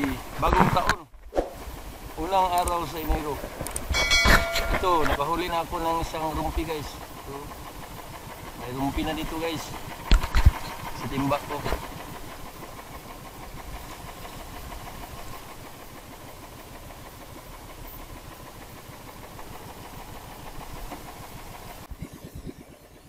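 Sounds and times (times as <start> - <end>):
small boat engine running: 0.0 - 23.0.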